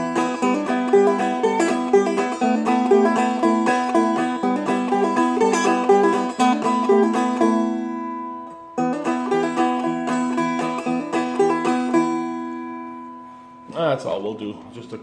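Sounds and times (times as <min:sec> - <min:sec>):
dulcimer picking: 0:00.0 - 0:14.2.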